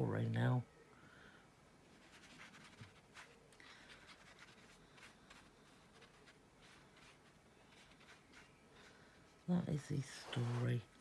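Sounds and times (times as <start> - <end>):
paintbrush scratching on paper: 1.9 - 11.0.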